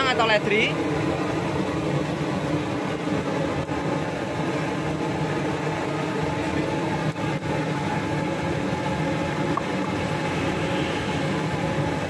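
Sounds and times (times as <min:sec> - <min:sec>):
mechanical hum and rumble: 0:00.0 - 0:12.0.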